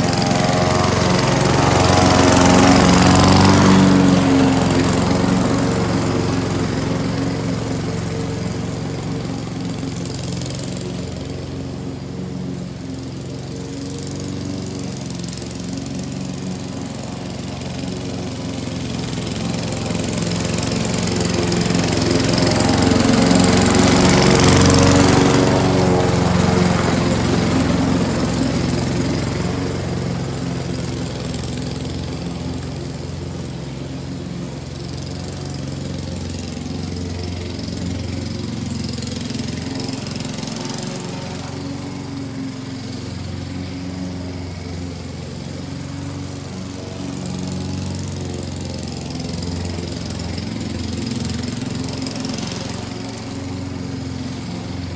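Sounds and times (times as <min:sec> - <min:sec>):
lawn mower cutting grass: 0:00.0 - 0:54.9.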